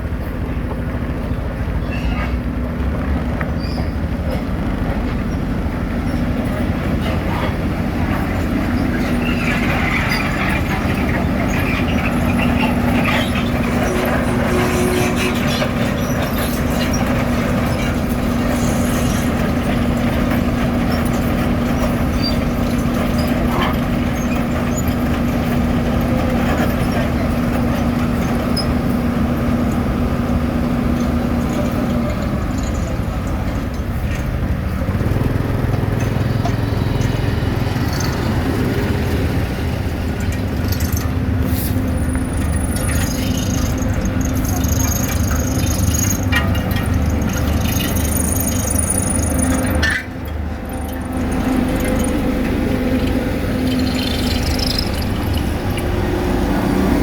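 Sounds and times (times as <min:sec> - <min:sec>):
diesel paving machinery running: 0:00.0 - 0:57.0.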